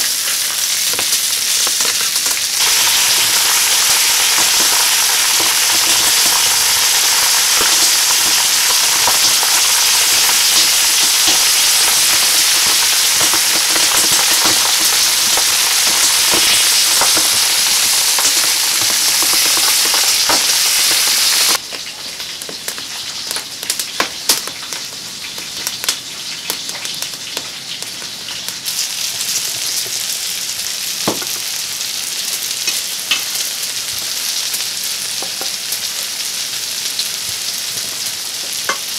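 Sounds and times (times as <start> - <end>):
meat and vegetables sizzling: 0.0 - 38.9.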